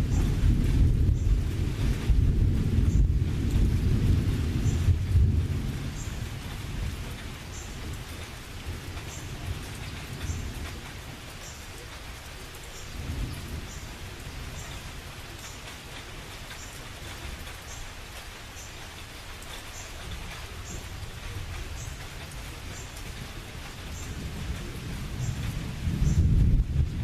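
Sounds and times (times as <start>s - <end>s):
thunder rumbling: 0.0s - 11.6s, 12.8s - 17.6s, 20.0s - 27.0s
steady rain: 0.0s - 27.0s.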